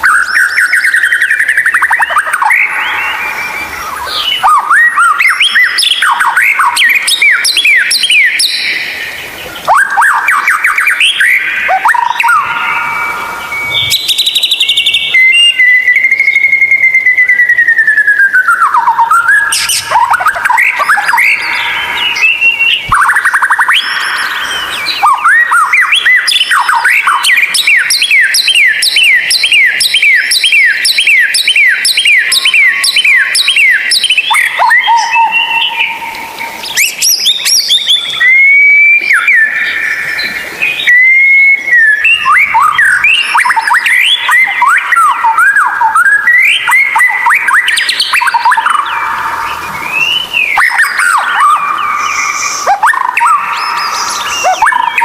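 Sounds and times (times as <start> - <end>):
bird singing whistled song: 0.0 - 55.0.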